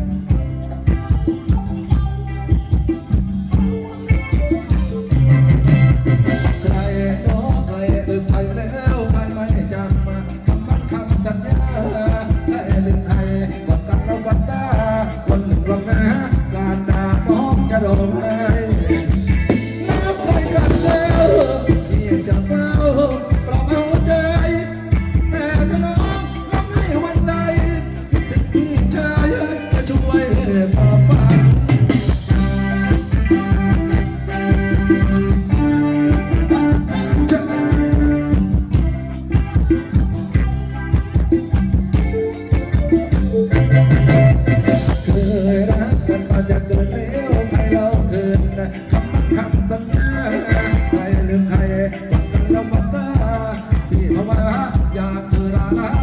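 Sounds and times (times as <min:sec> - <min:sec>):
live dance band playing: 0:00.0 - 0:56.0.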